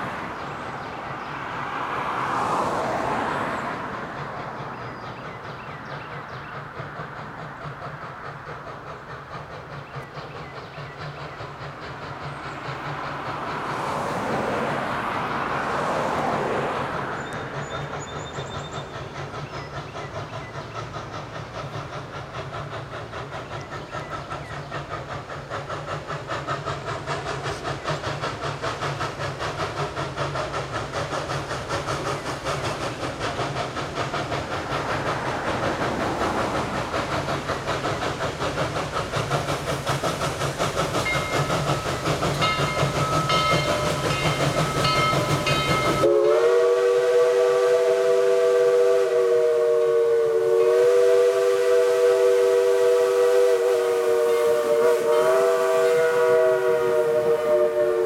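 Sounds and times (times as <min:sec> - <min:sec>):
steam locomotive exhaust beat: 0:00.0 - 0:58.0.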